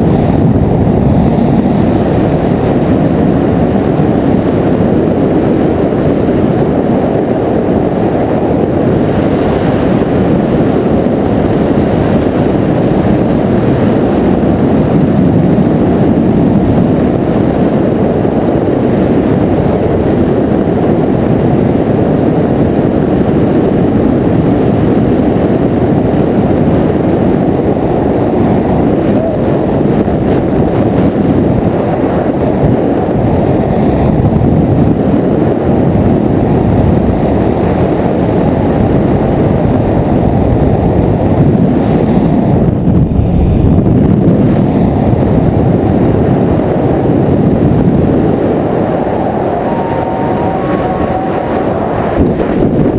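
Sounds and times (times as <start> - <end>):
paramotor engine and propeller: 0.0 - 52.9
wind rush on microphone: 0.0 - 52.9.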